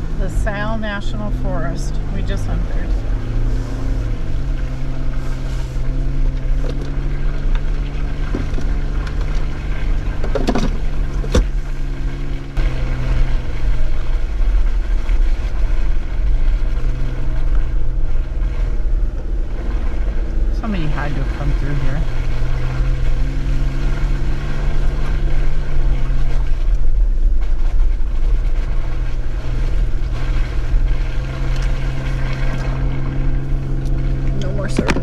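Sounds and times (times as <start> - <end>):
car engine running: 0.0 - 35.0
low road rumble: 0.0 - 35.0.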